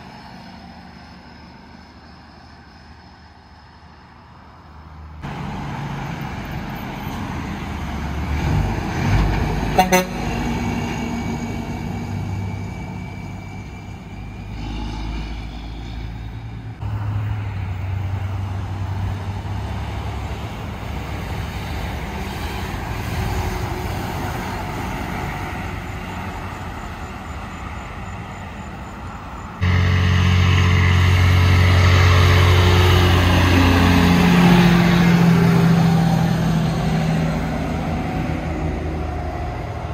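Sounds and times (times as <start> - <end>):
highway traffic passing: 0.0 - 39.9
truck passing close: 0.0 - 39.9.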